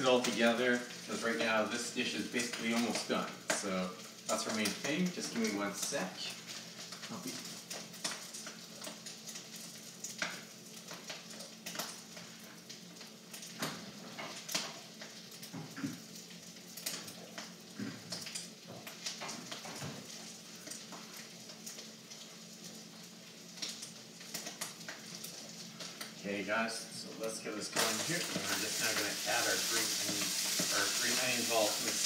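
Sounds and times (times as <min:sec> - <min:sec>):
faint sizzling: 0:00.0 - 0:32.0.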